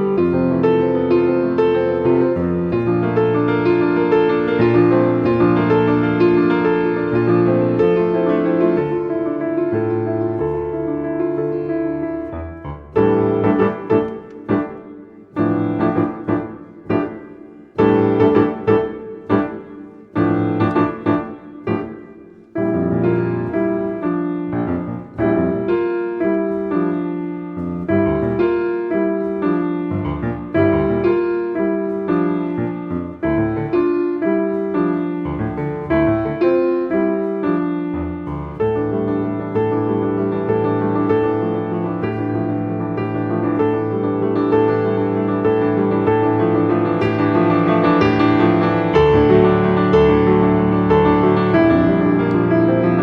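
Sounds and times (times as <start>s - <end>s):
piano chords ringing: 0.0s - 53.0s.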